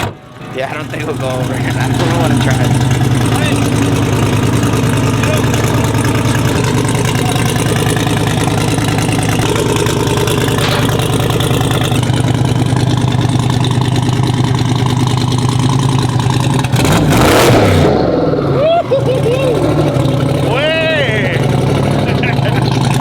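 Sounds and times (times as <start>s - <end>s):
engine idling: 0.0s - 23.0s
rush of engine noise: 0.0s - 23.0s.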